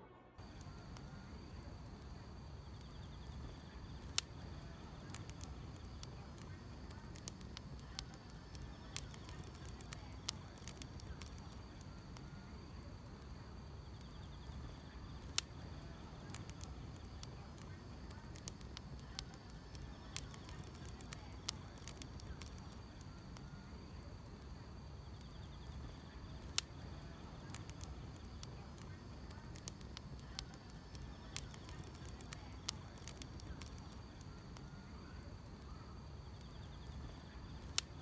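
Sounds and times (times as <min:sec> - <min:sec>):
fire low rumble: 0:00.4 - 0:38.0
firewood crackling and popping: 0:00.4 - 0:38.0.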